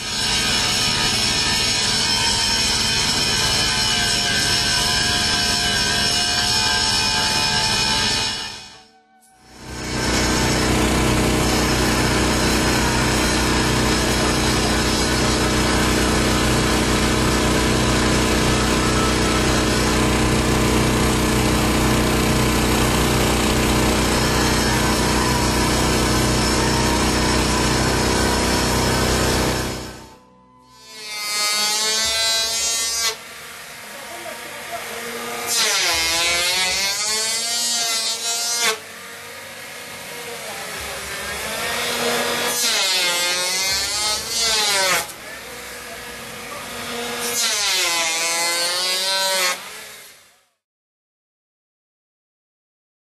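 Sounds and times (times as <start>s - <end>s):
electric hand planer cutting: 0.0s - 8.8s, 9.6s - 50.1s.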